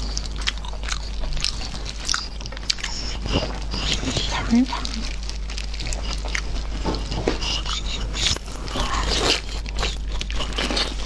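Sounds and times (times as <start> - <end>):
meat tearing: 0.0 - 11.0
person chewing: 0.0 - 11.0.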